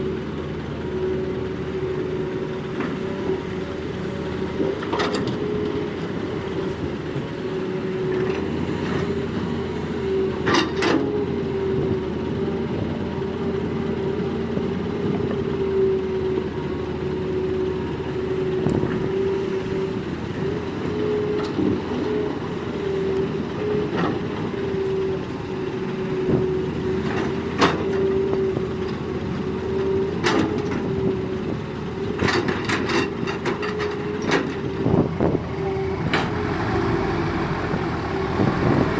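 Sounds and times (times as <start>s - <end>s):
excavator engine whining: 0.0s - 38.9s.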